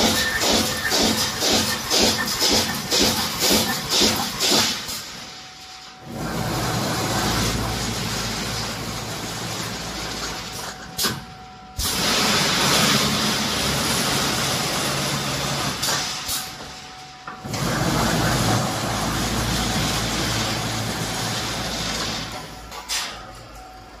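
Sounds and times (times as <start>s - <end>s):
hissing welding machine: 0.0s - 24.0s.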